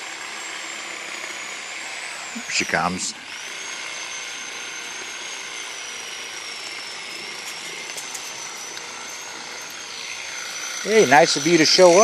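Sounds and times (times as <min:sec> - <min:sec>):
leaf blower running: 0:00.0 - 0:12.0.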